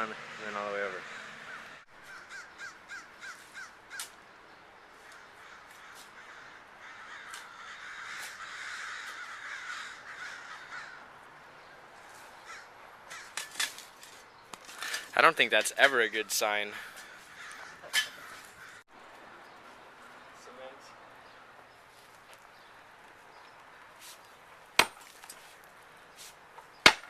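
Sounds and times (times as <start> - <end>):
bird calling: 0.4 - 13.4, 15.8 - 24.4.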